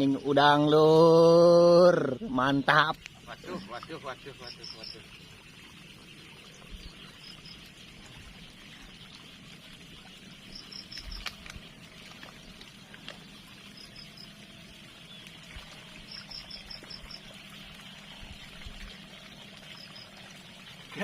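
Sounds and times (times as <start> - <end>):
river water trickling: 0.0 - 21.0.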